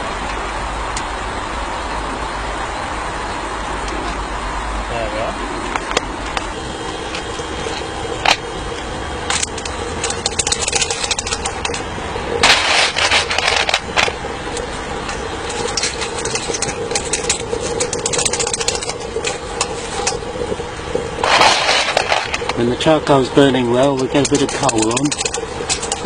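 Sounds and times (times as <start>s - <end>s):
electric fan running: 0.0s - 26.0s
loud burst of noise: 0.0s - 26.0s.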